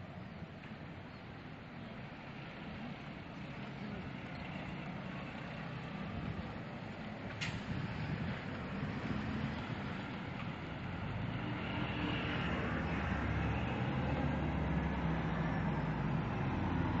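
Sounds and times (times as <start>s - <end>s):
street traffic: 0.0s - 17.0s
vehicle engine rumble: 0.0s - 17.0s.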